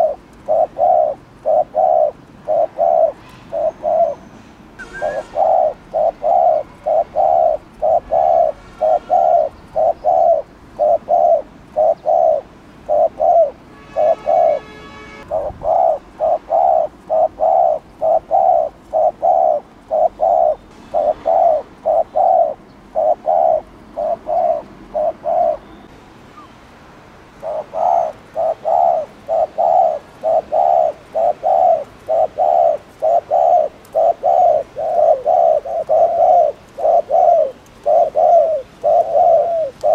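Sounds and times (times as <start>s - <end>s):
dove cooing: 0.0s - 25.8s, 27.4s - 39.9s
buzzy bird call: 0.0s - 26.5s, 27.4s - 39.9s.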